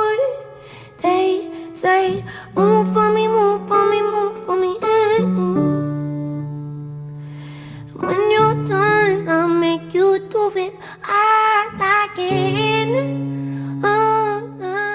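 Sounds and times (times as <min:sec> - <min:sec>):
woman singing wordless melody: 0:00.0 - 0:06.8, 0:07.7 - 0:14.9.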